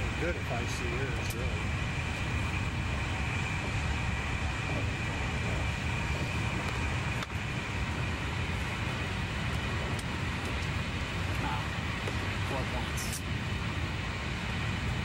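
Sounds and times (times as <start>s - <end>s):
train rumble and rushing: 0.0s - 15.0s.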